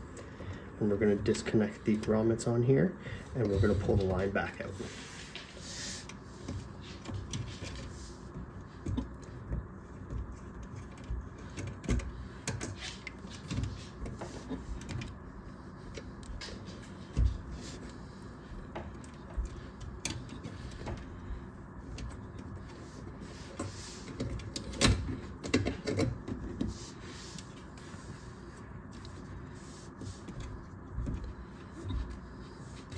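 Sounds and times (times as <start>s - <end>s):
hands handling wiring: 3.2s - 32.9s.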